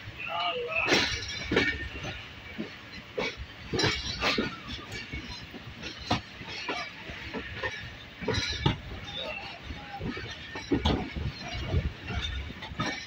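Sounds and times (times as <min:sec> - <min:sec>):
train rumbling on rails: 0:00.0 - 0:13.0
wheels knocking over rail joints: 0:00.2 - 0:13.0.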